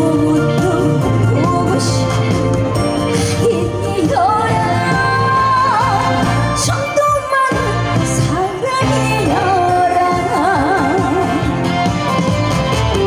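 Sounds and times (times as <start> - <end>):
woman singing with vibrato: 0.0 - 2.4, 3.0 - 11.6
band accompaniment: 0.0 - 13.0.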